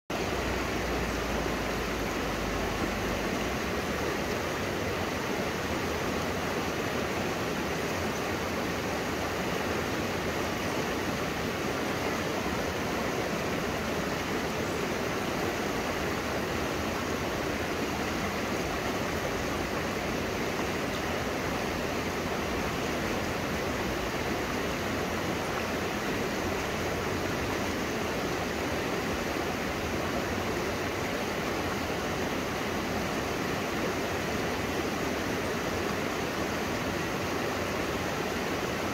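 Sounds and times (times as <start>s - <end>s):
river rushing over boulders: 0.1s - 38.9s.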